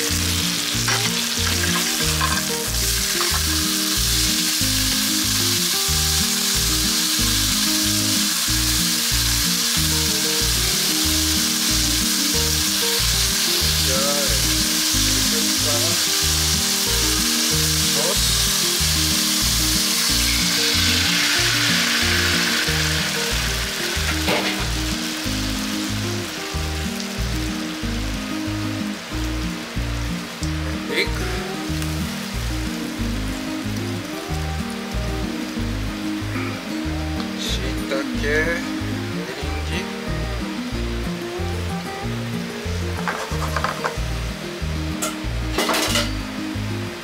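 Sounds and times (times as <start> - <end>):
background music with beat: 0.0 - 47.0
chicken sizzling in a pan: 0.0 - 47.0.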